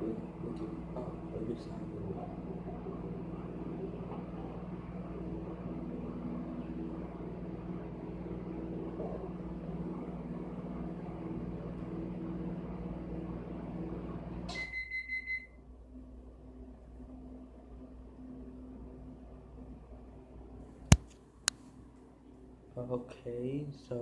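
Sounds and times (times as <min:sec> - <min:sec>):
microwave oven humming: 0:00.0 - 0:20.7.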